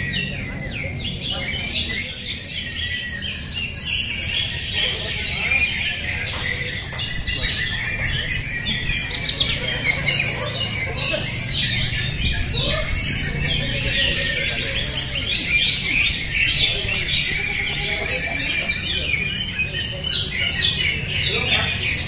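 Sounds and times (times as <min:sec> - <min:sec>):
chorus of birds singing: 0:00.0 - 0:22.0.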